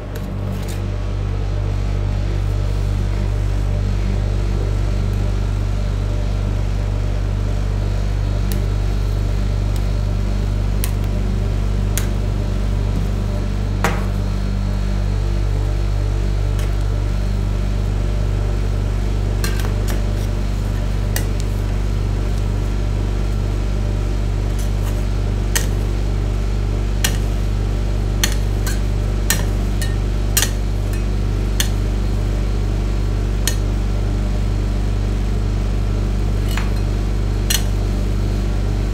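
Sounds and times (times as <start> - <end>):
refrigeration unit humming: 0.0 - 38.9.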